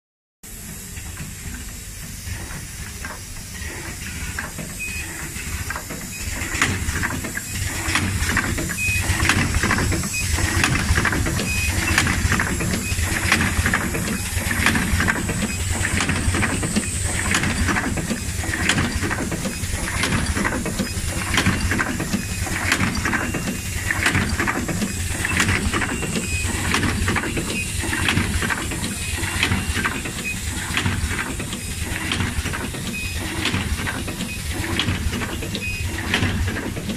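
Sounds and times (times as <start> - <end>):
low machine hum: 0.5 - 36.9
machine hissing and clattering: 0.5 - 36.9.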